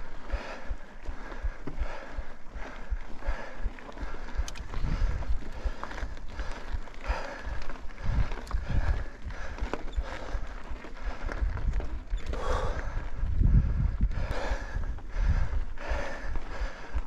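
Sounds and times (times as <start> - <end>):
bike rattling: 0.0 - 17.0
wind on microphone: 0.0 - 17.0.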